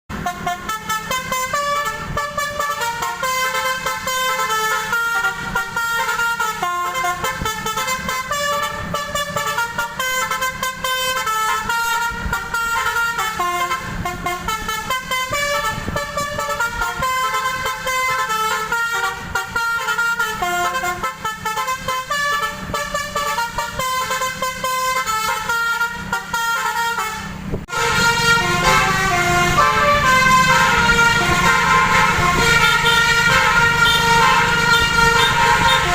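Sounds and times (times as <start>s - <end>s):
multi-tone bus horn melody: 0.1s - 35.9s.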